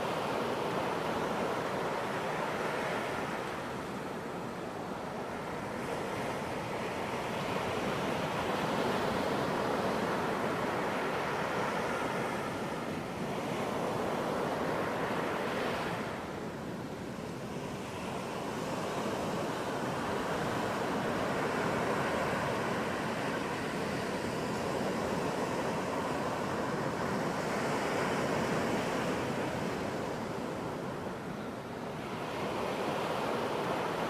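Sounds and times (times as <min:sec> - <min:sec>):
waves breaking on a beach: 0:00.0 - 0:34.0.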